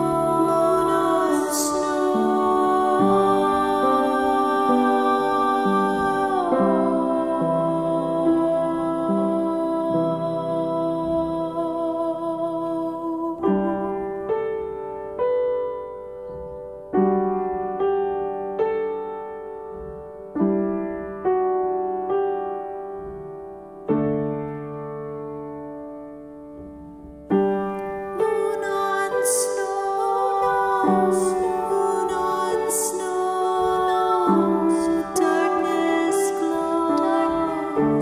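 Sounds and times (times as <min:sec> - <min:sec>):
gentle piano chords: 0:00.0 - 0:38.0.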